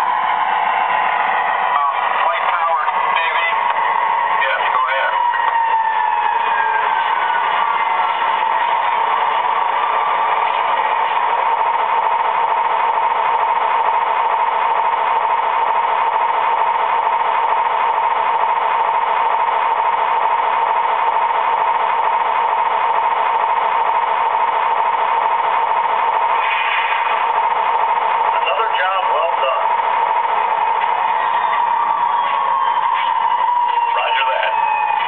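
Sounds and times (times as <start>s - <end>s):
diesel engine idling through small speaker: 1.6s - 34.8s.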